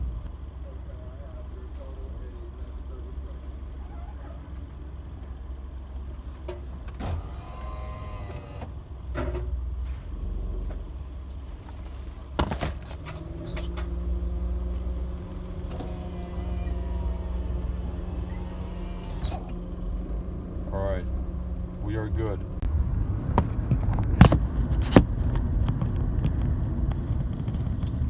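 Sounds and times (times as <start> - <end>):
car engine idling: 0.0 - 25.4
knocks and clunks: 3.8 - 26.4.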